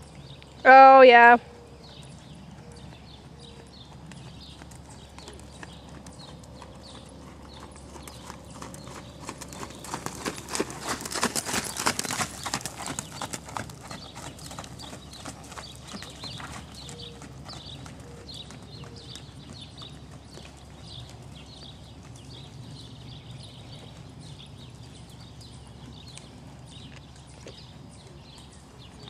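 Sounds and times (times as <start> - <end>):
horse hoofbeats on sand: 1.8 - 29.0.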